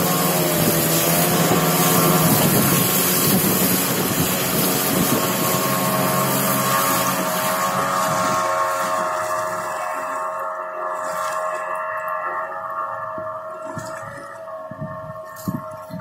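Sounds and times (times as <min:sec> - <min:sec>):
boat engine running: 0:00.0 - 0:16.0
wind and water rushing: 0:00.0 - 0:16.0.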